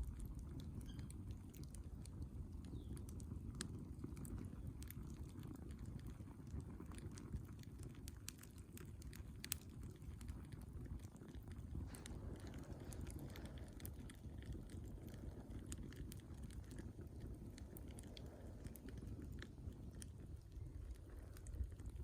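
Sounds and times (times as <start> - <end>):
low rumble of flames: 0.0 - 22.0
wood crackling and popping: 0.0 - 22.0.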